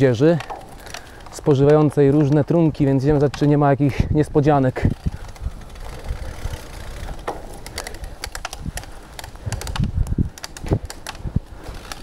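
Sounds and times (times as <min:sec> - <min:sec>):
bicycle creaking clicks: 0:00.0 - 0:12.0
low rumble of riding: 0:00.0 - 0:12.0.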